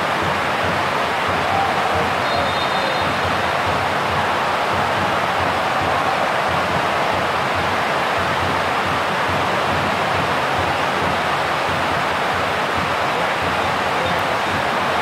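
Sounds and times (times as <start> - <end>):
stadium crowd roar: 0.0 - 15.0.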